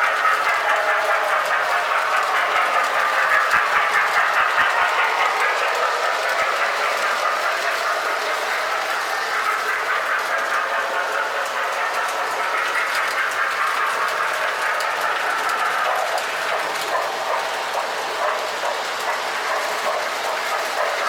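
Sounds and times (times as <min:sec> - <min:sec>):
toy train wheels and motors rumbling: 0:00.0 - 0:21.0
wheels clicking over rail joints: 0:00.0 - 0:21.0.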